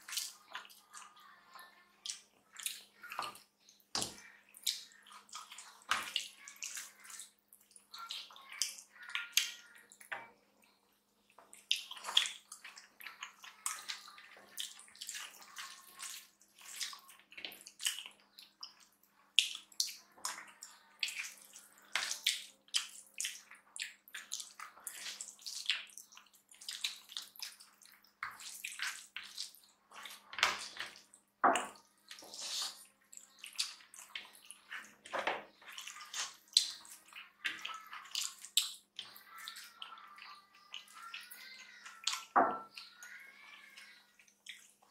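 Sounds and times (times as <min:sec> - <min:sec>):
wet eating squelches and smacks: 0:00.0 - 0:44.9.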